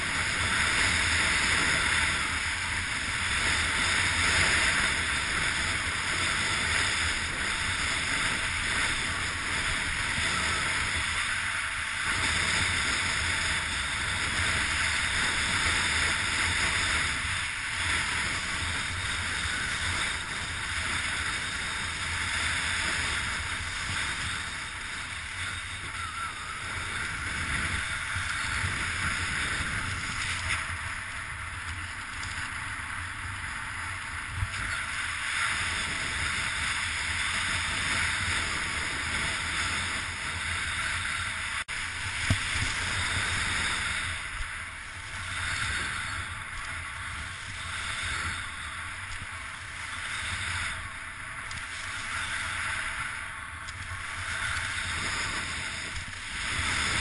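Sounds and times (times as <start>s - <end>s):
rushing wind: 0.0s - 57.0s.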